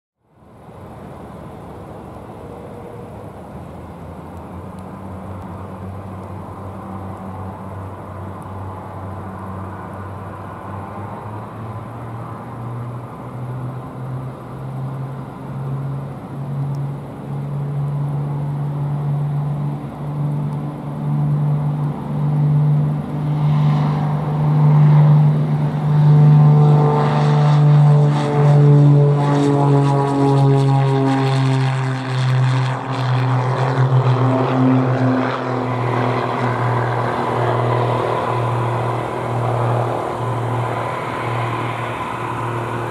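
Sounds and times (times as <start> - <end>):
propeller plane engines at takeoff: 0.2 - 42.9.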